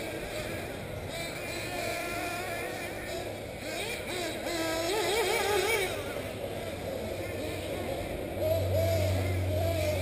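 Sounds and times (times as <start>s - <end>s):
rc car engines whining: 0.0s - 10.0s.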